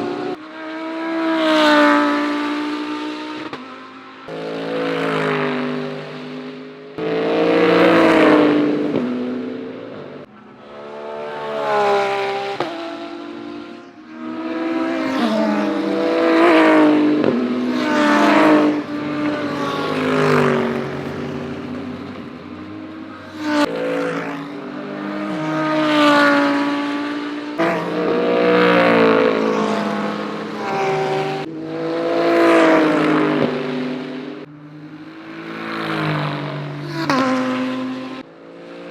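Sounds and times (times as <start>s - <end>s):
race cars passing by: 0.0s - 38.9s.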